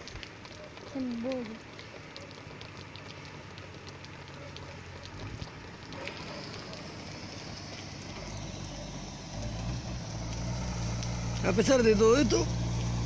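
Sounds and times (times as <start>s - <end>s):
rain on a flooded street: 0.0s - 13.0s.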